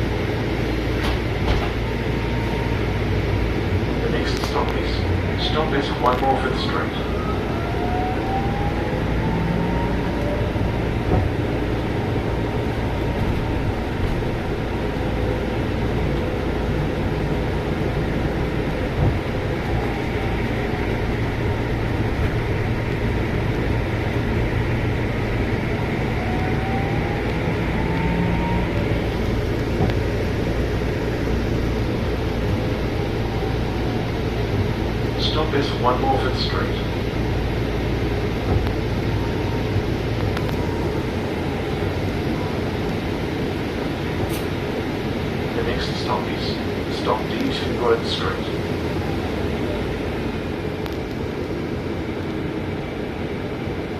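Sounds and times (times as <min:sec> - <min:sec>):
bus engine and road rumble: 0:00.0 - 0:53.9
rising engine whine: 0:00.0 - 0:53.9.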